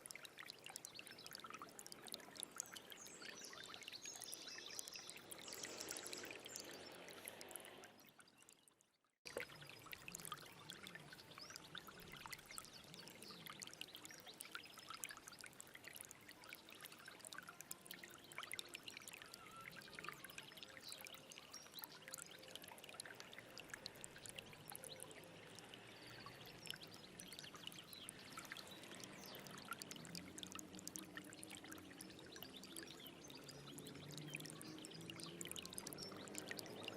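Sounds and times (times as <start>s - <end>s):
stream trickling and babbling: 0.0s - 36.9s.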